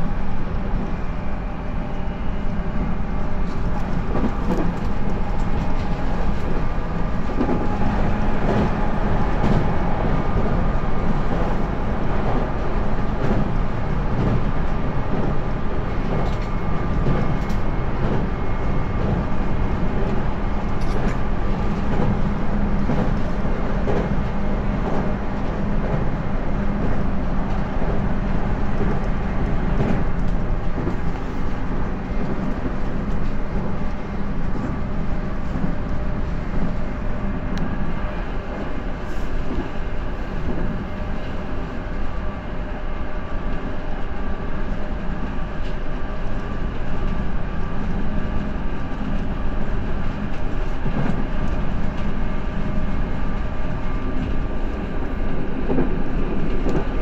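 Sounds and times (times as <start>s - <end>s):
train wheels rolling on rail: 0.0s - 57.0s.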